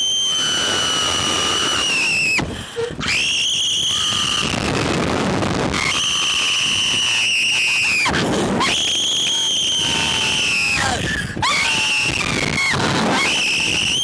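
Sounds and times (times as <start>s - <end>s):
people screaming: 0.0s - 14.0s.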